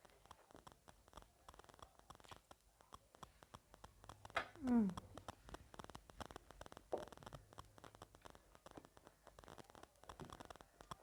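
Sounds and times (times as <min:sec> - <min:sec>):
close chewing and mouth smacks: 0:00.0 - 0:11.0.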